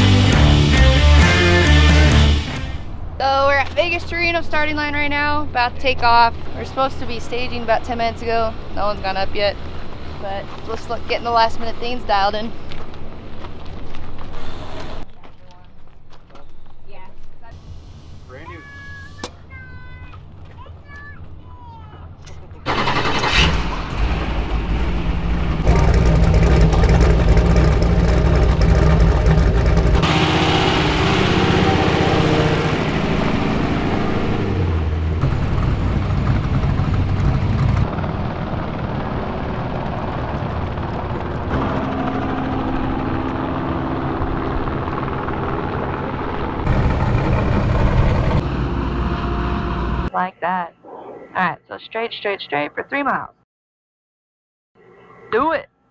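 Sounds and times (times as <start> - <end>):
truck engines running loud: 0.0 - 15.0, 17.5 - 50.1.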